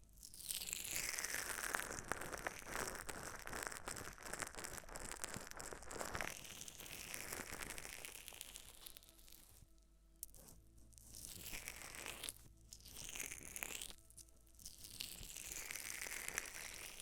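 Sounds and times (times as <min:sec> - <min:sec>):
material crinkling: 0:00.1 - 0:17.0.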